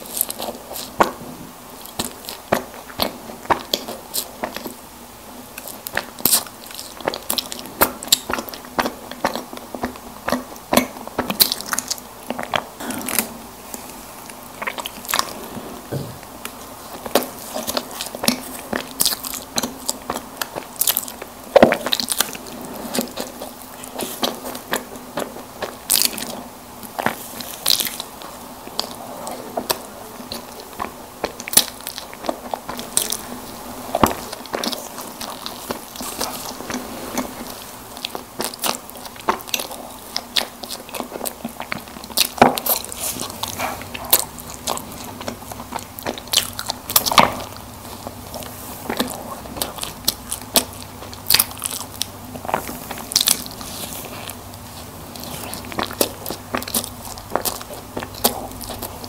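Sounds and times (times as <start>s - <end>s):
biting and chewing snack cakes: 0.0s - 59.0s.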